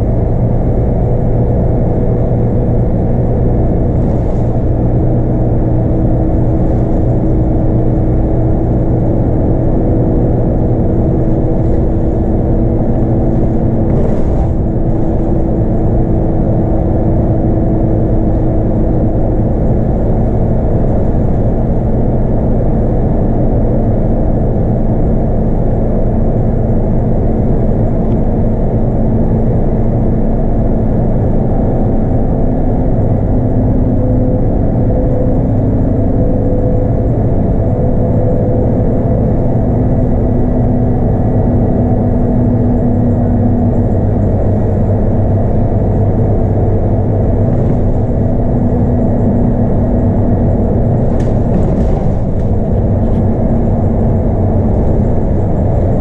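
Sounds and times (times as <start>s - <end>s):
bus diesel engine drone: 0.0s - 56.0s
road noise: 0.0s - 56.0s.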